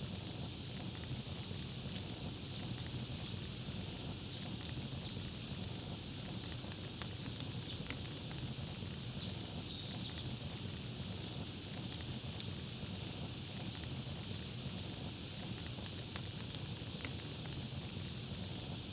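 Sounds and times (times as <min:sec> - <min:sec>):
campfire crackling: 0:00.0 - 0:18.9
low rumble of burning wood: 0:00.0 - 0:18.9
sharp pops of fire: 0:00.1 - 0:18.8.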